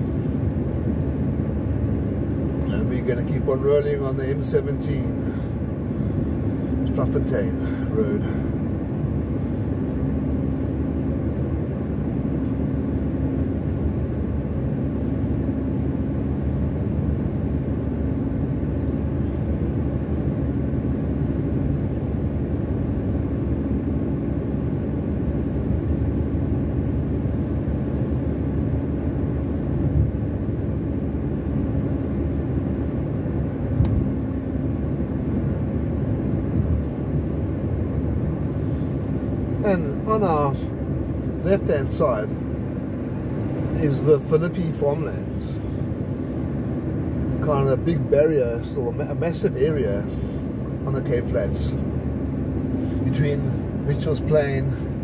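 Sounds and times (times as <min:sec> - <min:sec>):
car engine and tyre rumble: 0:00.0 - 0:55.0
faint hum: 0:00.0 - 0:55.0.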